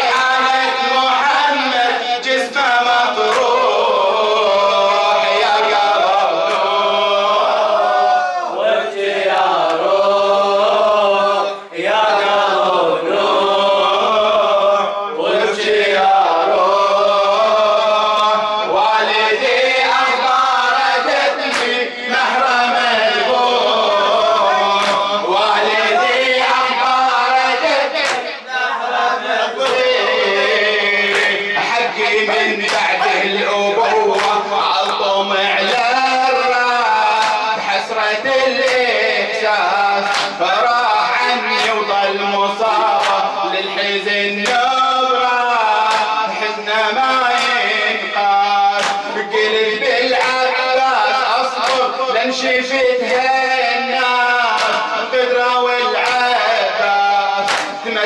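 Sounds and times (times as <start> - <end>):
men chanting together: 0.0 - 58.0.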